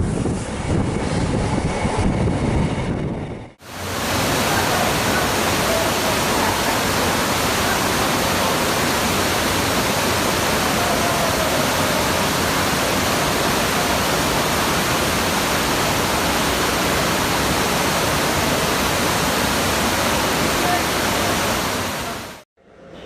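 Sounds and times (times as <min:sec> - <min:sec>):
loud steady rushing noise: 0:00.0 - 0:23.0.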